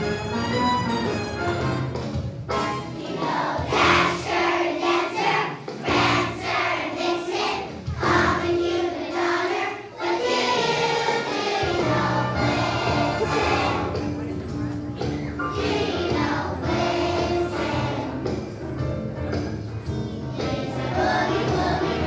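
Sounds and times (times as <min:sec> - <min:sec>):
musical accompaniment: 0:00.0 - 0:22.0
children's choir singing: 0:02.8 - 0:14.5, 0:15.4 - 0:22.0.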